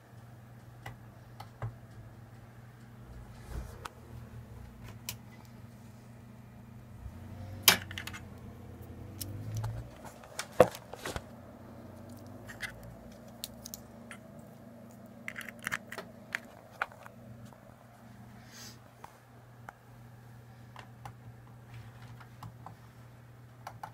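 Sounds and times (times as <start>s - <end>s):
low hum: 1.8s - 21.9s.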